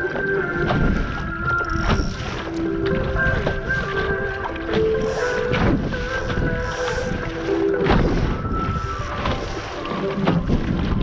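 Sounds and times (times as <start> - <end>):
background music of held notes: 0.0 - 11.0
water splashing along hull: 0.0 - 11.0
wind rumble on microphone: 0.0 - 11.0.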